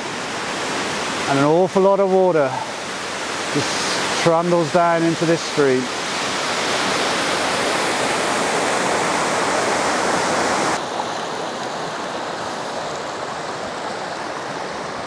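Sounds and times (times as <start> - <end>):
fast-flowing rocky stream: 0.0 - 15.0
waterfall rushing: 0.0 - 15.0.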